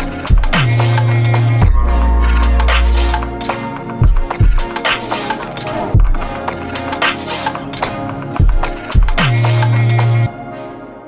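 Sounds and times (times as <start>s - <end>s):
music with bass and drums: 0.0s - 10.3s.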